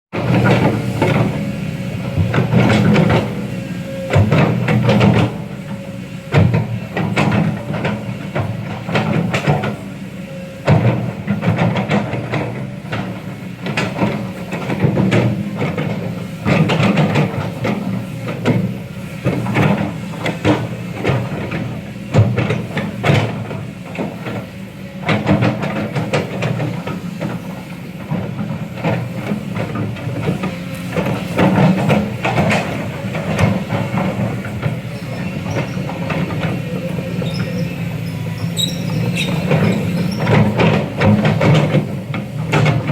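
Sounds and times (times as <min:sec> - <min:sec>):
diesel engine running: 0:00.2 - 0:42.9.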